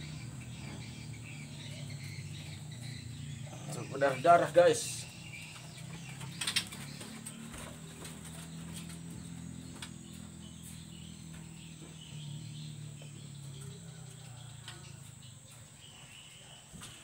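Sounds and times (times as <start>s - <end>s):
bird chirps: 0.0s - 17.0s
insect drone: 0.0s - 17.0s.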